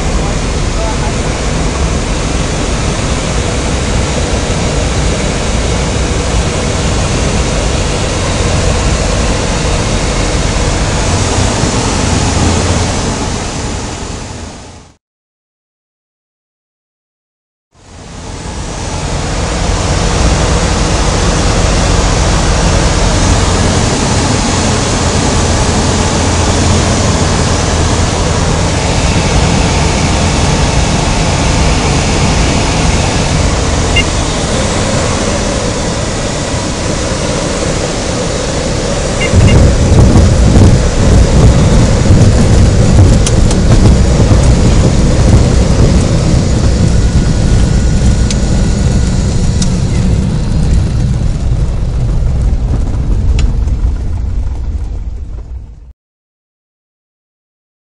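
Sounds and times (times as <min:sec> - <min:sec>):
wheels rumbling on grass: 0:00.0 - 0:14.9, 0:17.8 - 0:55.9
airflow and aircraft engine: 0:00.0 - 0:15.0, 0:17.7 - 0:55.9.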